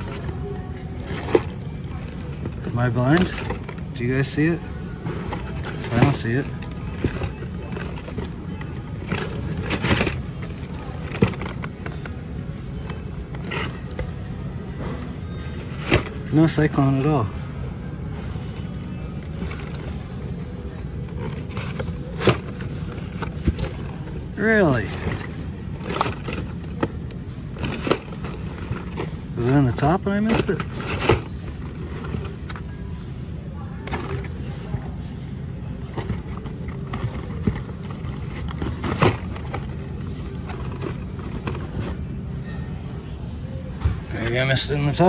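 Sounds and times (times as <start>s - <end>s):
blister packs clicking and rustling: 0.0s - 14.3s, 18.4s - 32.8s, 33.8s - 35.2s, 35.8s - 42.3s
store background rumble: 0.0s - 45.0s.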